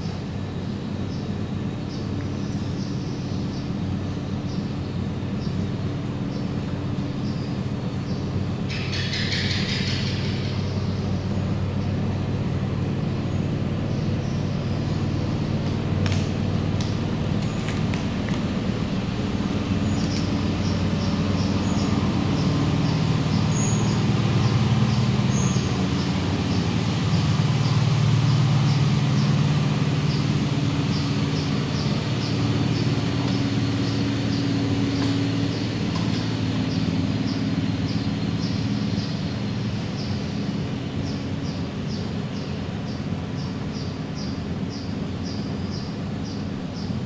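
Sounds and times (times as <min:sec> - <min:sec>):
low engine drone: 0:00.0 - 0:47.0.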